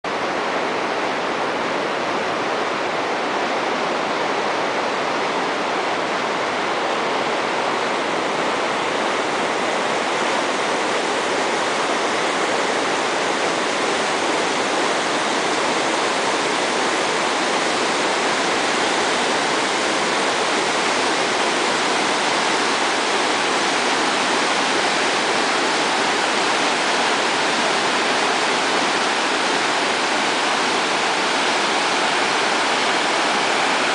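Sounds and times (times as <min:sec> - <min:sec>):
river rapids rushing: 0:00.1 - 0:33.9.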